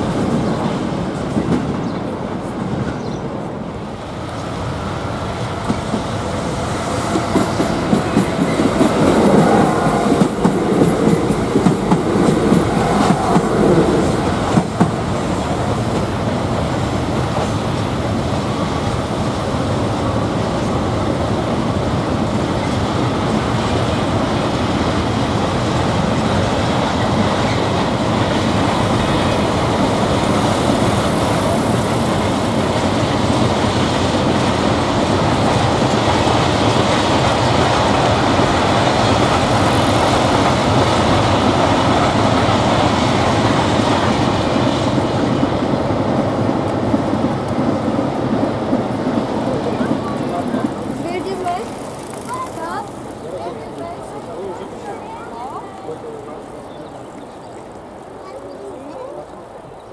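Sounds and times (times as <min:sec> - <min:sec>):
train wheels clattering over rails: 0:00.0 - 0:58.4.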